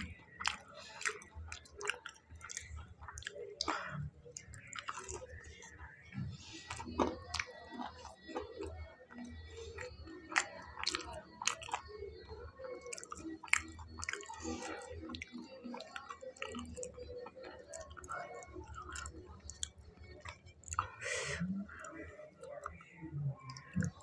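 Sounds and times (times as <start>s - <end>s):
man chewing crunchy food: 0.0s - 5.9s, 6.5s - 11.9s, 12.8s - 22.8s.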